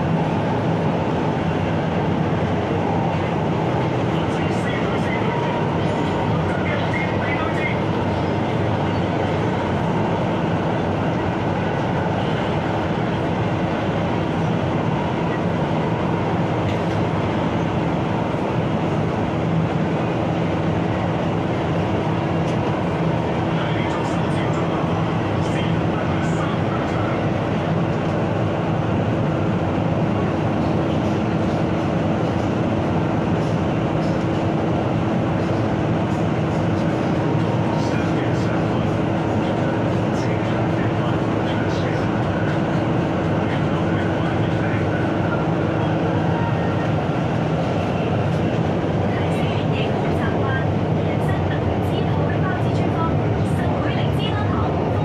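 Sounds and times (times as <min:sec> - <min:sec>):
constant hum: 0:00.0 - 0:55.0
train wheels and air rumbling: 0:00.0 - 0:55.0.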